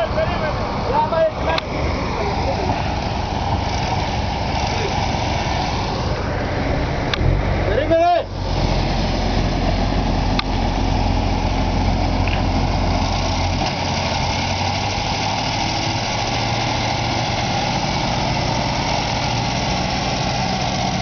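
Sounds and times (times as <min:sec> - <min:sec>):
large engine running: 0:00.0 - 0:21.0.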